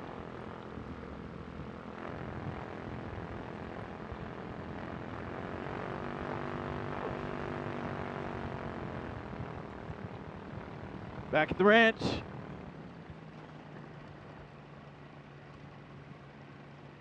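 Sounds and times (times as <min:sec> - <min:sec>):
ultralight engine and propeller: 0:00.0 - 0:17.0.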